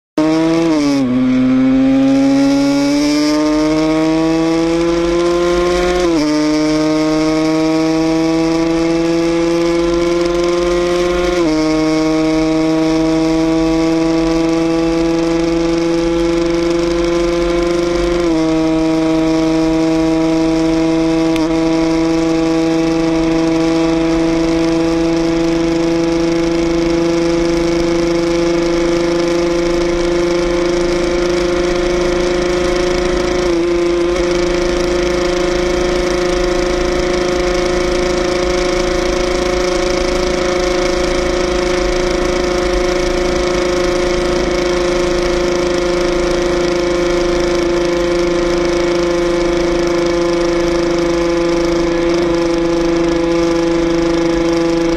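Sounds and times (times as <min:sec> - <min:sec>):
motorcycle engine accelerating: 0:00.2 - 0:54.9.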